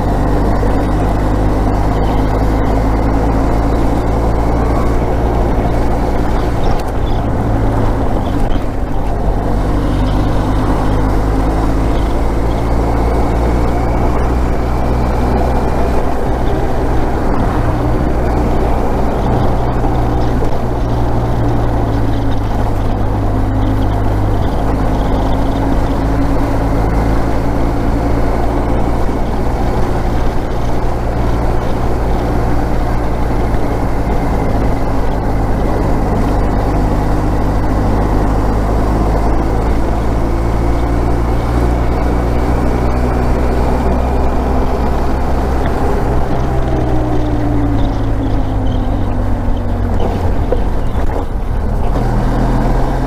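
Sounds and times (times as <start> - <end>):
motorcycle engine cruising: 0.0 - 53.0
wind and road noise: 0.0 - 53.0.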